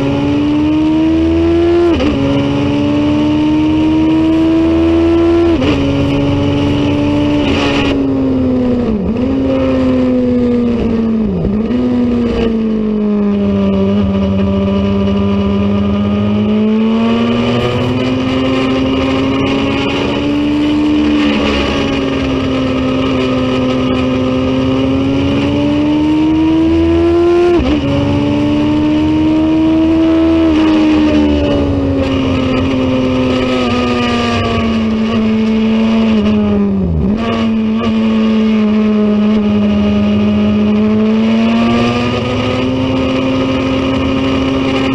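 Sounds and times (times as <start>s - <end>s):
racing motorcycle engine revving: 0.0s - 44.9s.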